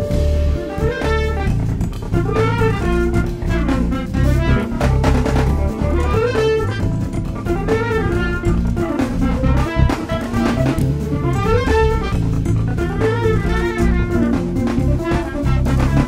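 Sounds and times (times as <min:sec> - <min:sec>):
drum kit: 0:00.0 - 0:16.0
electric bass: 0:00.0 - 0:16.0
trumpet playing lead line: 0:00.0 - 0:16.0.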